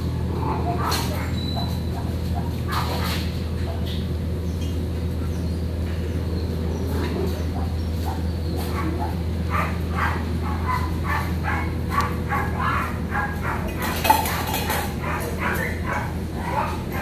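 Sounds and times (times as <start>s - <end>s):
puppies yipping and barking: 0.0s - 17.0s
steady low hum: 0.0s - 17.0s.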